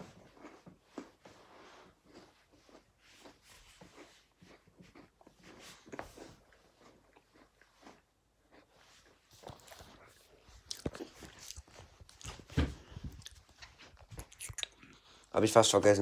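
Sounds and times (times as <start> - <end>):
person chewing with crunches: 0.0 - 15.3.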